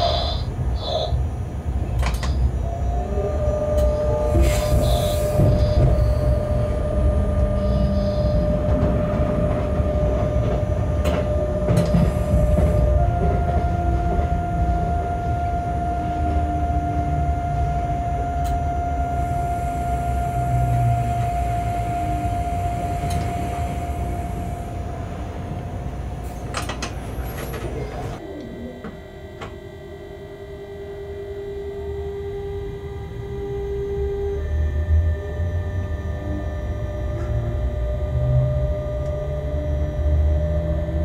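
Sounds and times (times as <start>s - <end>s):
wheels rumbling on rail: 0.0s - 29.8s, 30.4s - 41.0s
locomotive whine: 0.0s - 41.0s.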